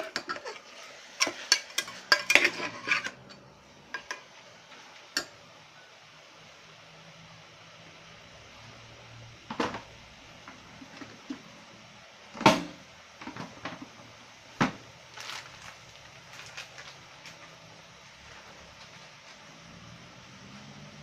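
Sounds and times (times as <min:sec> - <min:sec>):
meat frying with pops and crackles: 0:00.0 - 0:21.0.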